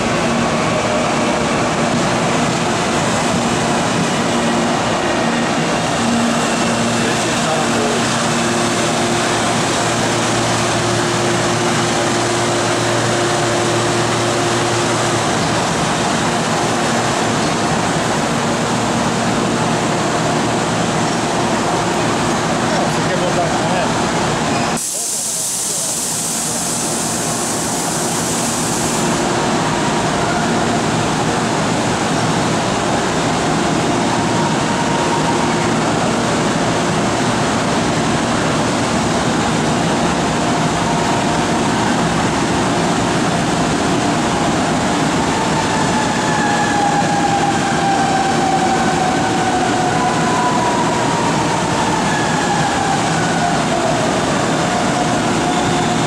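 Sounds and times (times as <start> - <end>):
train rumble and hum: 0.0 - 56.0.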